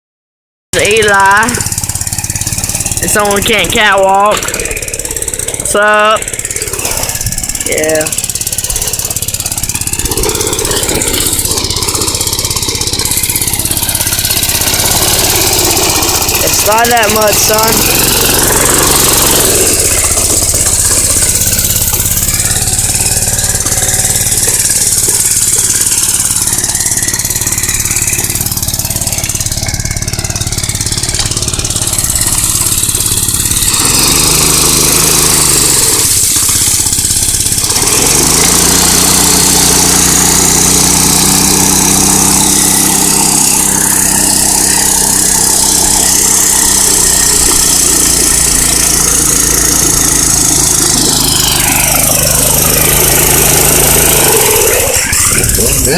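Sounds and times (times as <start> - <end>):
small engine revving: 0.8 - 55.9.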